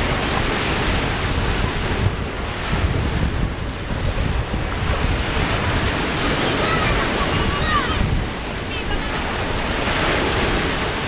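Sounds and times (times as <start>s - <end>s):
small waves breaking on shore: 0.0s - 11.0s
wind buffeting microphone: 0.0s - 11.0s.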